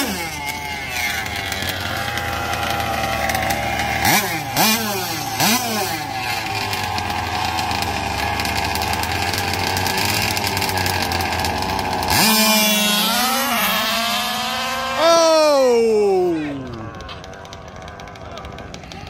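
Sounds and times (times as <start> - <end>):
small two-stroke engines revving: 0.0 - 19.0.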